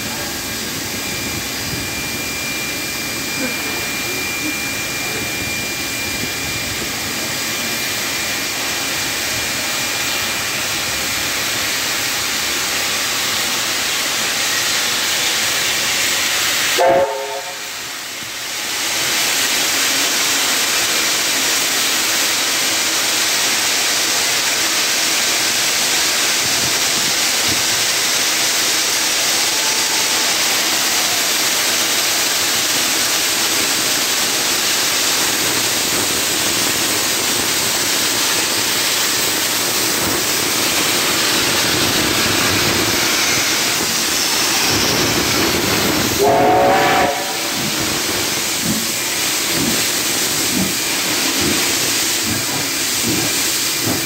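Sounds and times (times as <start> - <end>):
steam venting hiss: 0.0 - 54.0.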